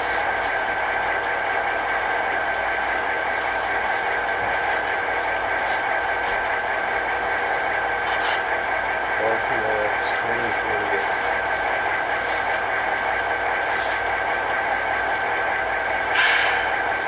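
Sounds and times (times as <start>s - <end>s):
mechanical hum with high whine: 0.0s - 17.0s.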